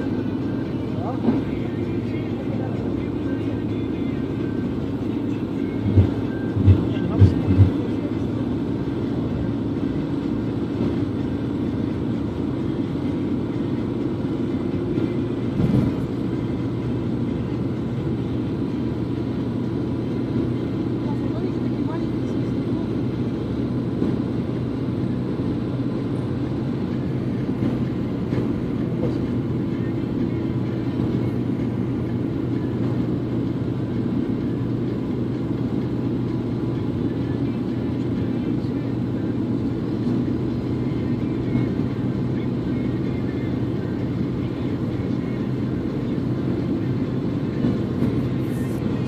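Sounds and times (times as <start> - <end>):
moving vehicle rumble: 0.0 - 49.0.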